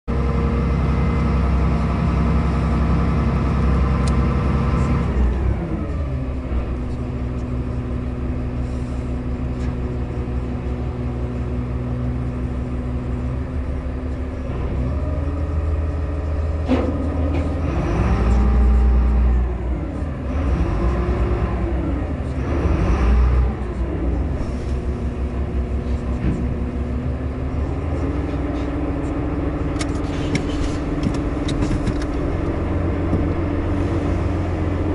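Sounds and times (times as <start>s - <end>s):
ferry engines droning: 0.0s - 34.9s
low engine rumbles: 0.0s - 34.9s.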